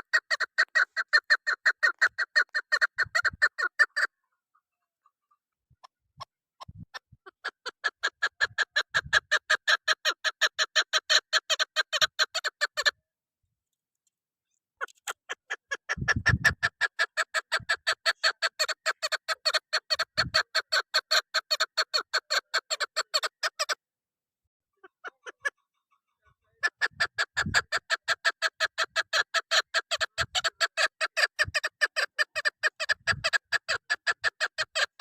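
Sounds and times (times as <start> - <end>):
partridge clucking calls: 0.0 - 13.0, 14.8 - 23.8, 24.8 - 35.0.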